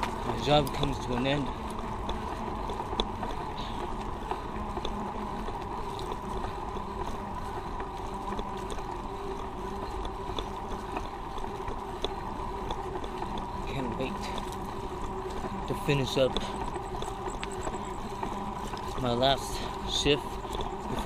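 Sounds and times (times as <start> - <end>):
bike tyres on road: 0.0 - 21.0.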